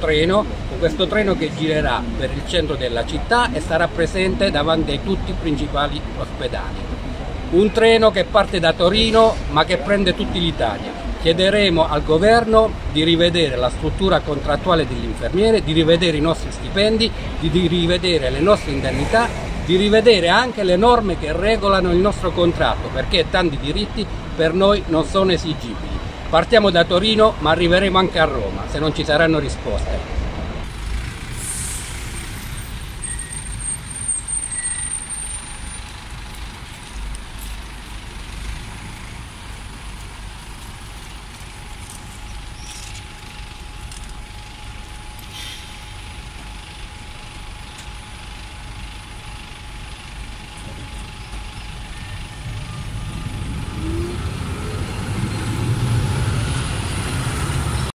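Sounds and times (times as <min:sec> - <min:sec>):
traffic driving past: 0:00.0 - 0:57.9.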